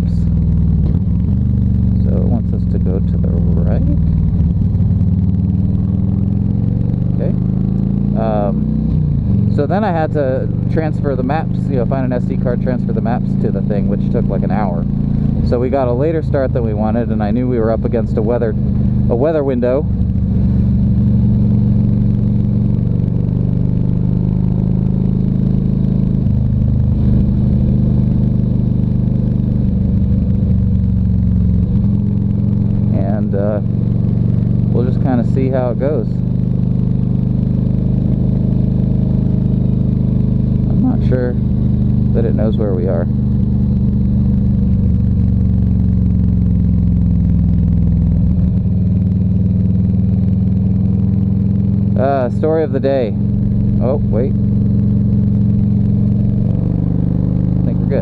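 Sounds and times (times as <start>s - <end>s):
motorcycle engine drone: 0.0s - 58.0s.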